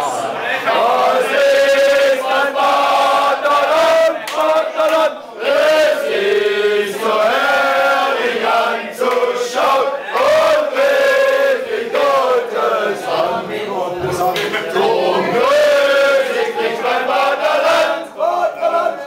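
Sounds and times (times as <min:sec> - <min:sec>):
men chanting together: 0:00.6 - 0:19.0.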